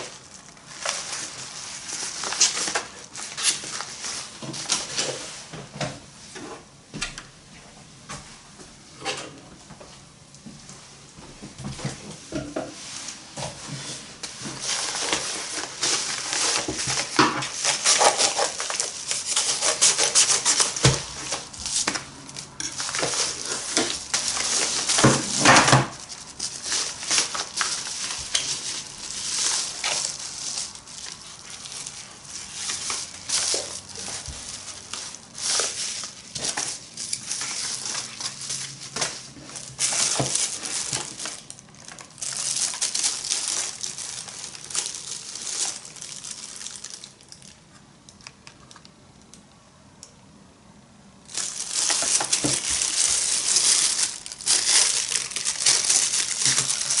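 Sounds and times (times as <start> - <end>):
packaging rustling and crinkling: 0.0 - 5.6, 11.6 - 48.9, 51.2 - 57.0.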